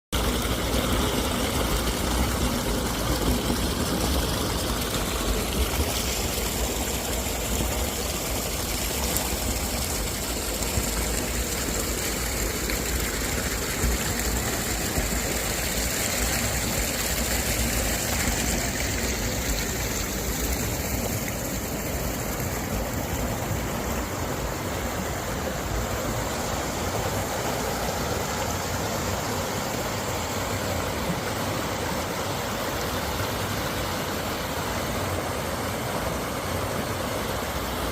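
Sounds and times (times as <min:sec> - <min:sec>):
water rushing: 0:00.2 - 0:37.9.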